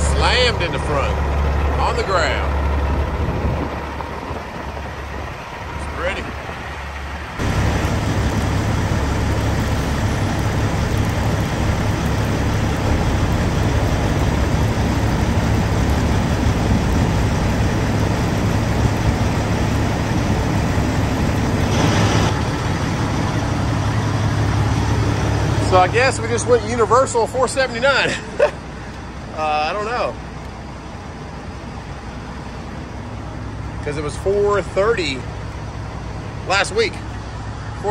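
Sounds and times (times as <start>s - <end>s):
road noise rushing: 0.0s - 37.9s
truck engine hum: 0.0s - 37.9s.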